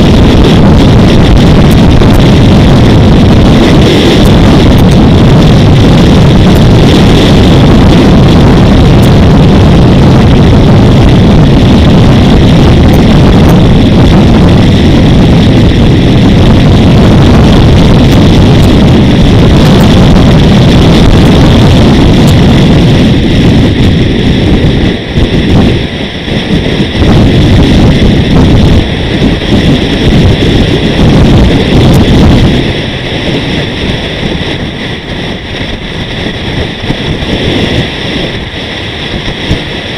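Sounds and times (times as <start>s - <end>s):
engine noise: 0.0s - 39.9s
wind buffeting microphone: 0.0s - 39.9s.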